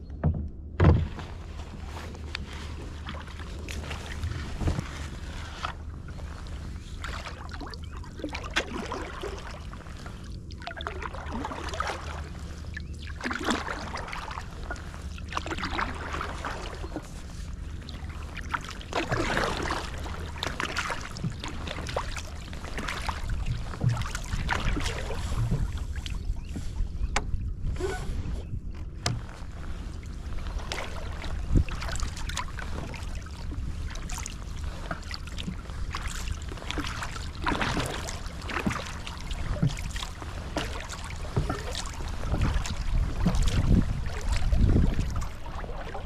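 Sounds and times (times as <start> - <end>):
paddle splashing through water: 0.2 - 46.0.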